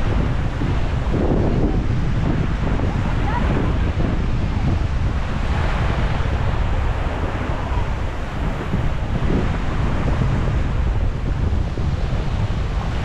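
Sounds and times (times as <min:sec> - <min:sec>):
small waves breaking on sand: 0:00.0 - 0:13.0
wind rumbling on microphone: 0:00.0 - 0:13.0.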